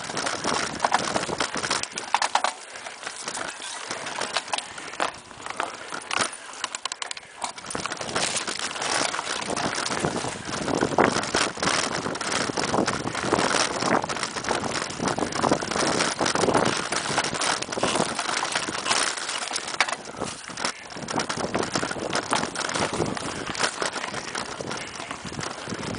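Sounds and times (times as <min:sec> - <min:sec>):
bike clattering and rattling: 0:00.0 - 0:25.9.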